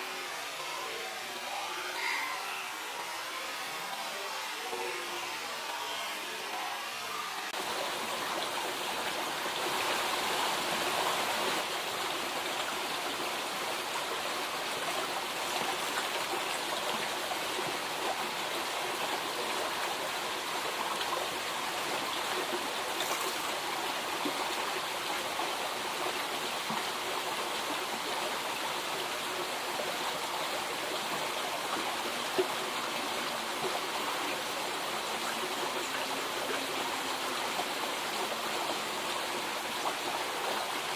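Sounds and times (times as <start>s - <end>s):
river water flowing: 7.4s - 40.9s.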